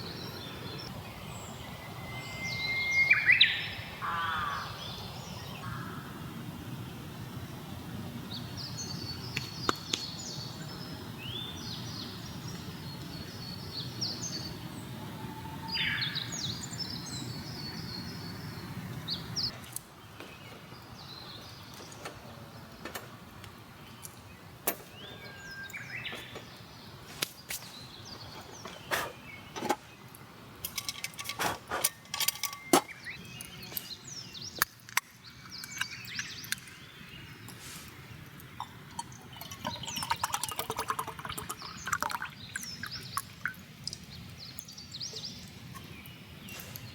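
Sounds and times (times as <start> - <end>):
small birds chirping: 0.0 - 6.1, 8.3 - 46.9.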